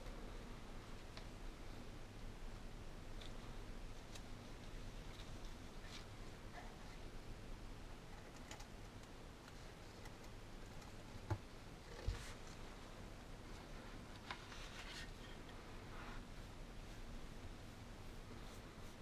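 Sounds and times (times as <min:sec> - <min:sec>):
faint clicks and rustles: 0:00.0 - 0:19.0.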